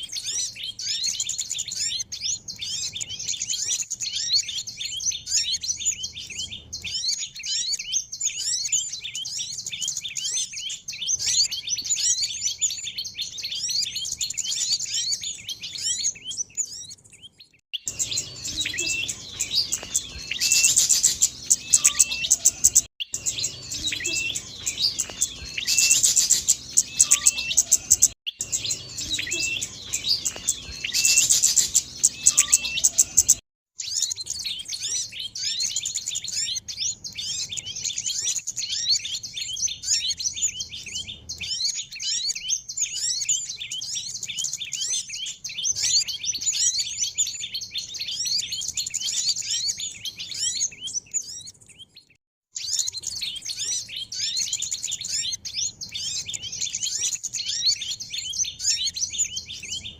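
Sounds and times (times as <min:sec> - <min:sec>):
songbird chirps and twitters: 0:00.0 - 0:59.9.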